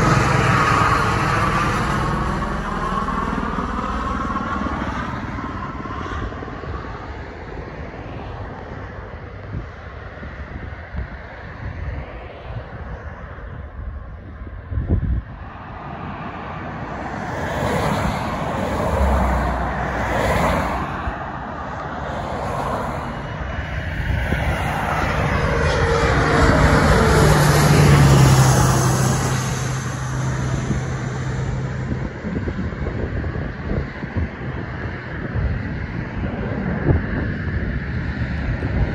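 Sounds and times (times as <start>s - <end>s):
jet passing low overhead: 0.0s - 38.9s
wind on microphone: 0.0s - 38.9s.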